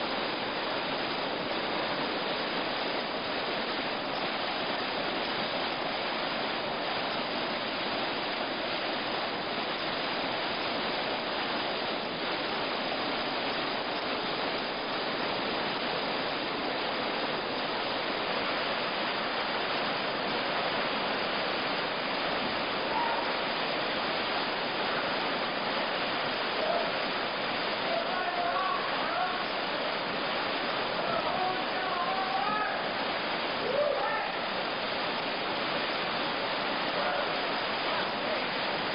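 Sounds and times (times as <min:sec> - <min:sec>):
whitewater rapids rushing: 0:00.0 - 0:38.9.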